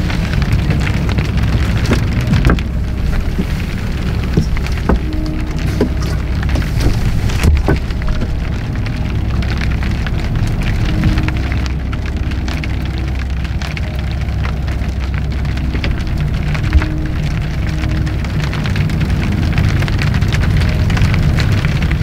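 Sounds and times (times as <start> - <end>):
rain on a tarpaulin roof: 0.0 - 22.0.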